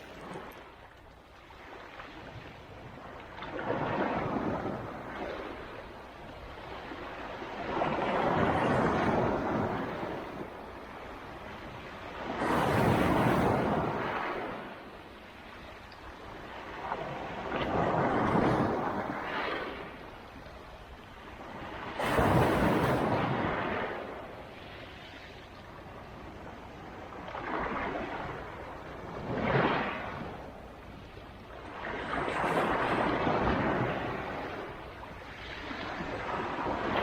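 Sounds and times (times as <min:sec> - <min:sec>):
waves breaking on shore: 0:00.0 - 0:37.0.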